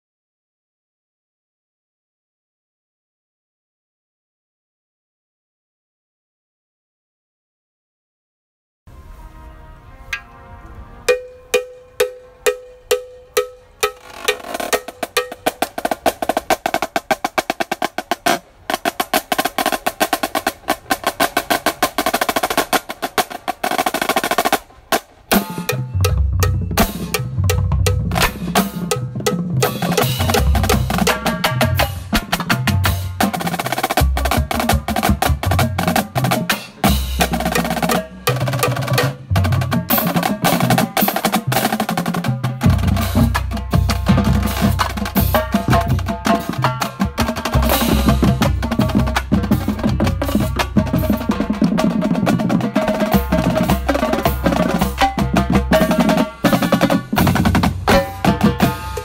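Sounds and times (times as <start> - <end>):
marching snare drums: 11.1 - 59.0.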